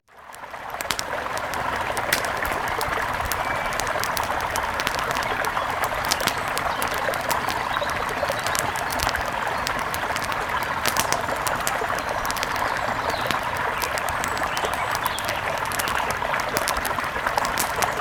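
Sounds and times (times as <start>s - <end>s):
wood fire crackling and popping: 0.1s - 18.0s
mountain river rushing: 0.6s - 18.0s.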